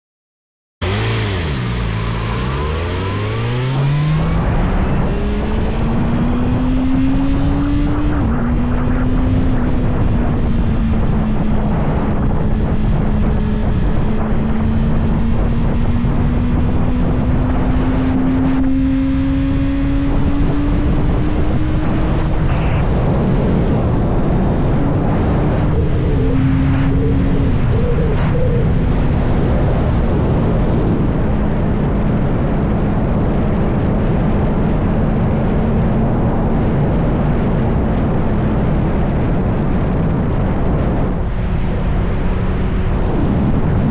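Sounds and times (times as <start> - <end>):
motorcycle engine accelerating: 0.8 - 43.9
rush of noise: 0.8 - 43.9.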